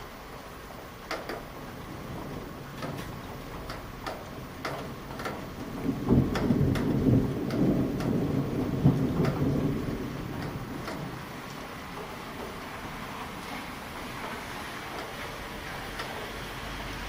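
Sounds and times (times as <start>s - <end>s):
close raindrops ticking: 0.0s - 17.0s
steady rain: 0.0s - 17.0s
thunder rumbling low: 1.4s - 17.0s.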